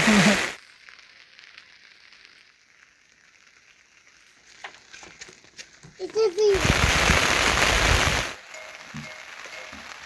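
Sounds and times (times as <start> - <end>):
light rain hiss: 0.0 - 10.0.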